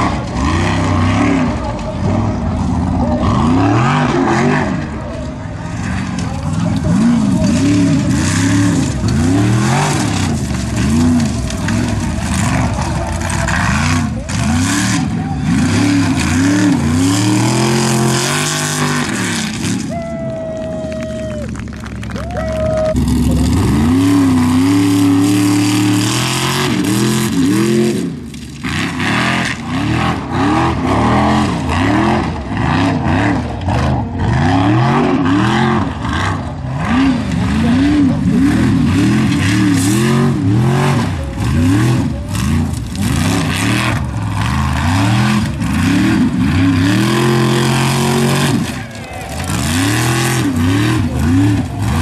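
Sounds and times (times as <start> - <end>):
buggy engine revving hard: 0.0 - 19.9, 21.6 - 52.0.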